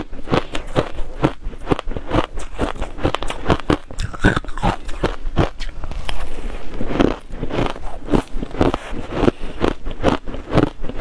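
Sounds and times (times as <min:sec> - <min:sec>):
ice being chewed: 0:00.0 - 0:11.0.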